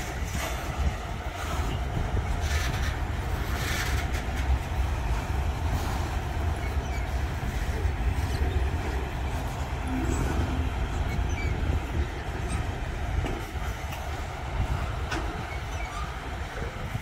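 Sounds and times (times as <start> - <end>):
train rumbling past: 0.0 - 17.0
wheel clatter: 0.0 - 17.0.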